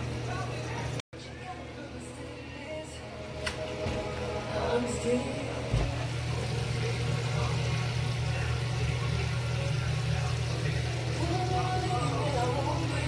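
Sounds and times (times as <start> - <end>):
kitchen fan motor hum: 0.0 - 13.0.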